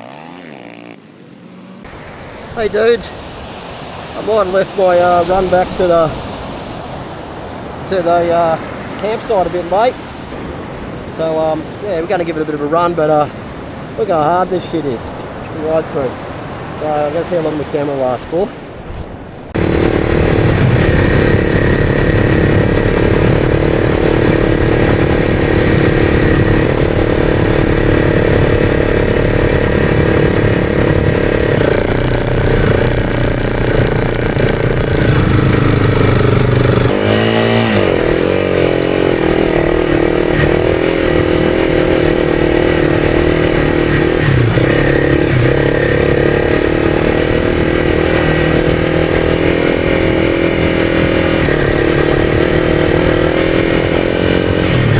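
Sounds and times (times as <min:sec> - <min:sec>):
motorcycle engine running hard: 0:01.8 - 0:12.5, 0:19.5 - 0:54.9.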